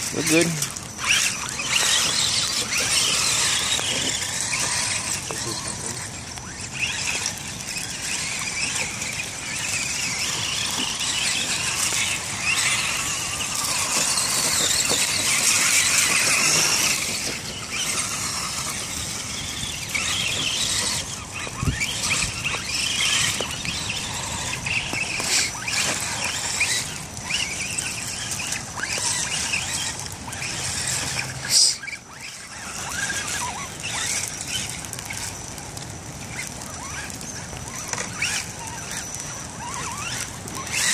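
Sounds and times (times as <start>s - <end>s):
toy car electric motors whining: 0.0s - 40.9s.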